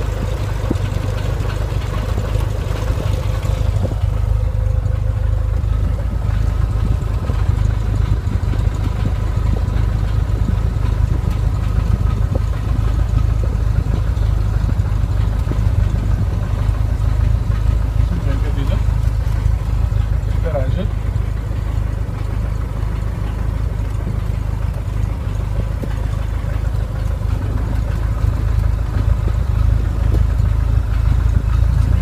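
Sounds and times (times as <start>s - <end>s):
faint steady whine: 0.0s - 32.0s
light aircraft engine drone: 0.0s - 32.0s.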